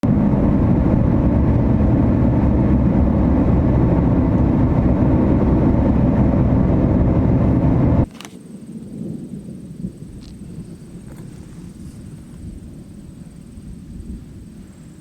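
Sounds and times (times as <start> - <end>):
storm wind blasting microphone: 0.0 - 15.0.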